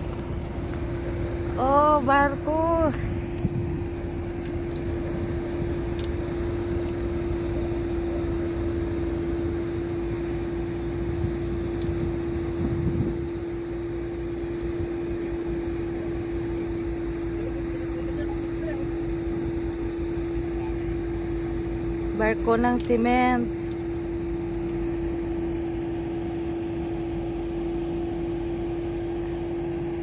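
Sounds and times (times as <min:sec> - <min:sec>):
ship machinery droning hum: 0:00.0 - 0:30.0.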